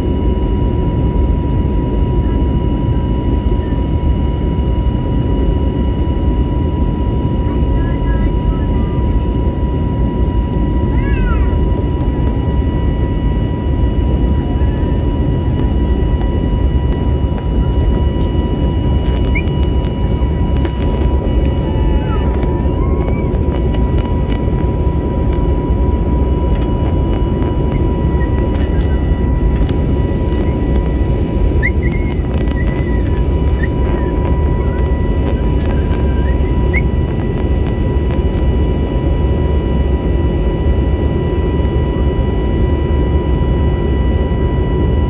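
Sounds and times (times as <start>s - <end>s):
jet cabin engine rumble: 0.0s - 45.0s
thin steady whine: 0.0s - 45.0s.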